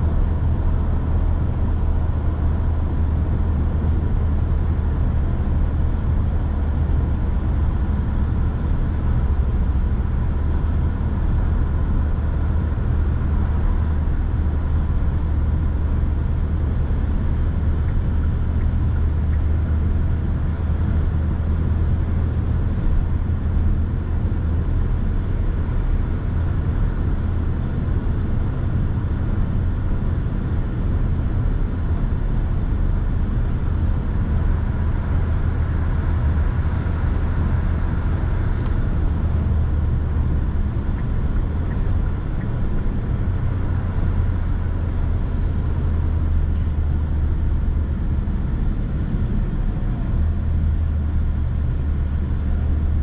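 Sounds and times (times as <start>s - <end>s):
car driving with tyre noise: 0.0s - 53.0s.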